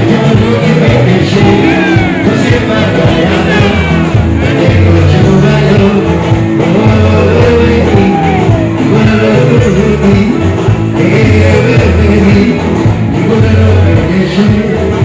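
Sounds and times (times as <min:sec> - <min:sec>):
live band with singing: 0:00.0 - 0:15.0.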